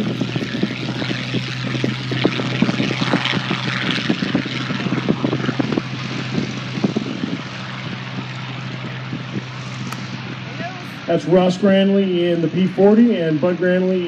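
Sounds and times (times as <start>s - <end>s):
propeller engine rumble: 0.0s - 14.0s.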